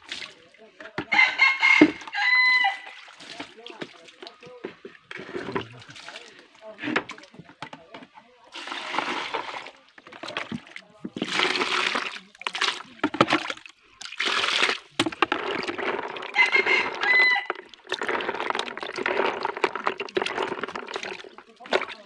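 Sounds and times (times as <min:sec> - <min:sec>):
water sloshing in plastic bucket: 0:00.0 - 0:22.0.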